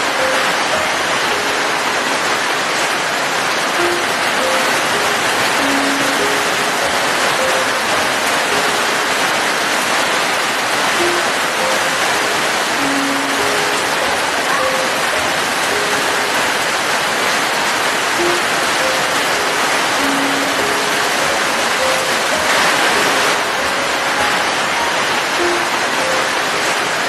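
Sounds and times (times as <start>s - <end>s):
slow sparse melody: 0.0s - 27.0s
steady rain: 0.0s - 27.0s.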